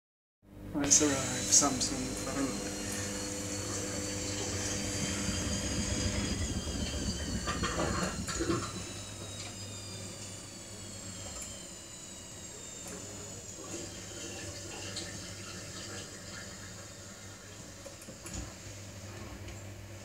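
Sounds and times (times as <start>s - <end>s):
washing machine humming: 0.5s - 20.0s.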